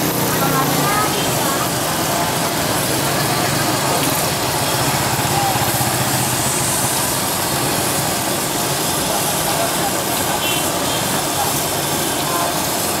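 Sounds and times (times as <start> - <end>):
dough deep-frying in oil: 0.0 - 13.0
small engine running: 0.0 - 13.0.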